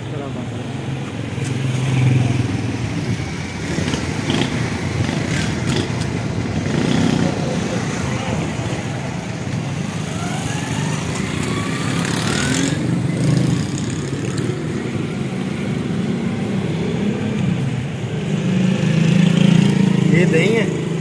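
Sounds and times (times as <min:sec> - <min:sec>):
motorcycle and car engines: 0:00.0 - 0:21.0
vehicle accelerating: 0:00.7 - 0:21.0.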